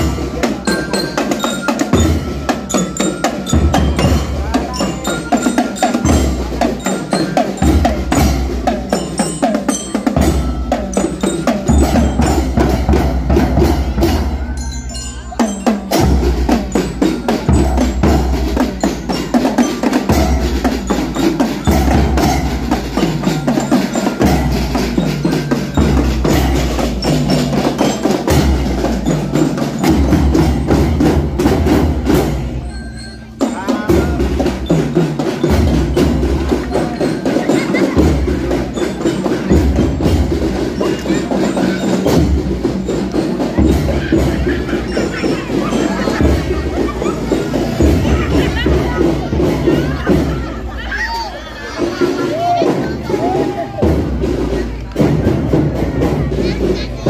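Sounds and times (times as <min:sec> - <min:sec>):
children's marching drum band: 0:00.0 - 0:57.0
mallet instruments ringing: 0:00.0 - 0:57.0.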